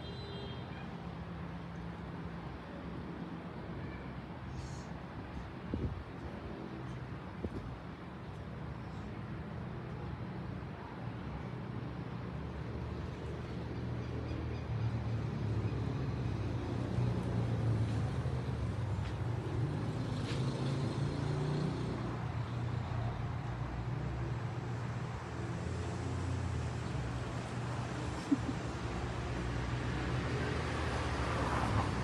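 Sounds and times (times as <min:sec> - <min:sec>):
traffic rumble of passing cars: 0:00.0 - 0:32.0.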